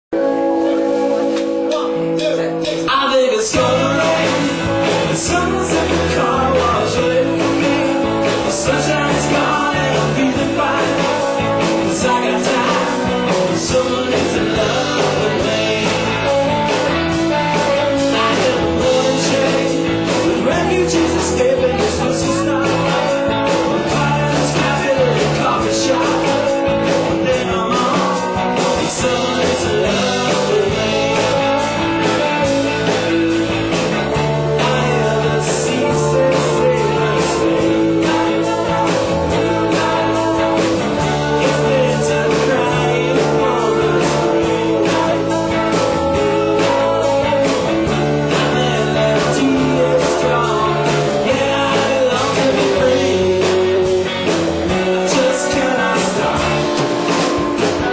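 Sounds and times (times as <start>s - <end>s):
live rock band playing: 0.0s - 57.9s.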